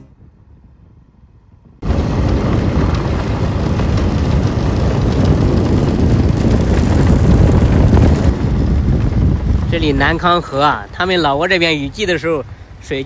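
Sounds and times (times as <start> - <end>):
road noise: 0.0 - 13.0
wind buffeting microphone: 0.0 - 13.0
motorcycle engine running: 1.8 - 12.9.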